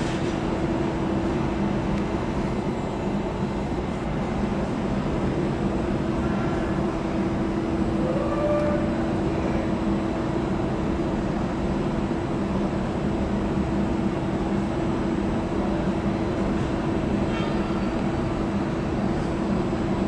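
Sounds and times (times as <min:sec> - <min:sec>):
electric train rolling slowly: 0:00.0 - 0:20.0
steady low hum: 0:00.0 - 0:20.0.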